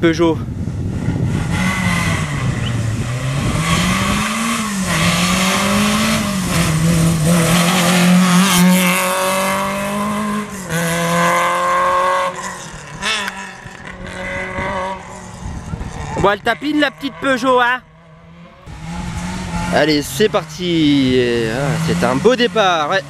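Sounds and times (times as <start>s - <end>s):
rally car engine revving: 0.6s - 23.0s.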